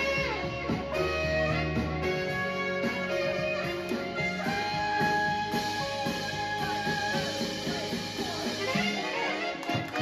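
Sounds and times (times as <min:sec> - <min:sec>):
band accompaniment: 0:00.0 - 0:10.0
saxophone playing: 0:00.0 - 0:10.0.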